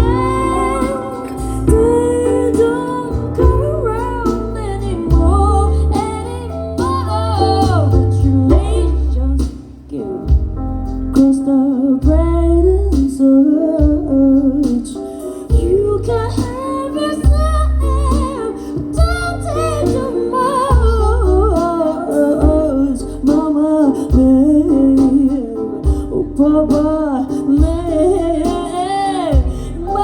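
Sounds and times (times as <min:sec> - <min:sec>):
woman singing wordless vocals: 0:00.0 - 0:10.6, 0:11.2 - 0:30.0
live jazz band playing: 0:00.0 - 0:30.0.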